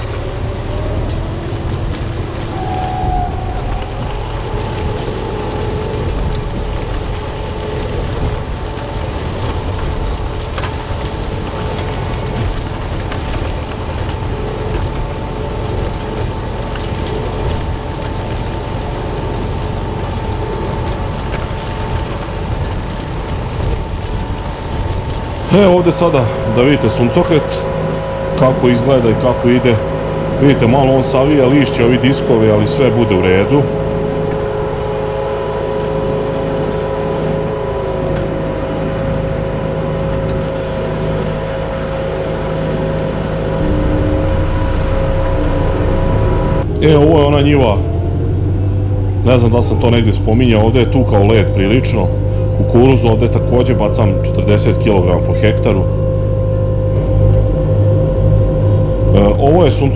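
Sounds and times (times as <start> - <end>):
cultivator working soil: 0.0 - 56.0
faint high whine: 0.0 - 59.9
tractor engine running: 0.0 - 59.9.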